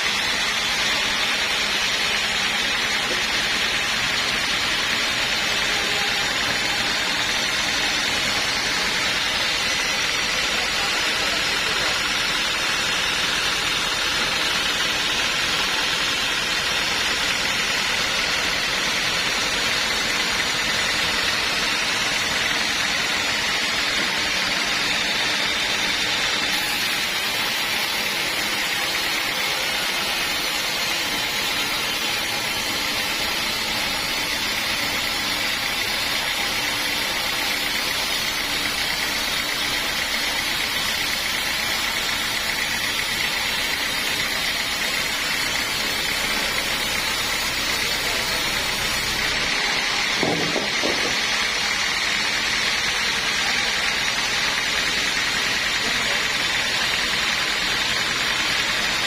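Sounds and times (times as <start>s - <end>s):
sawmill machine humming: 0.0s - 59.0s.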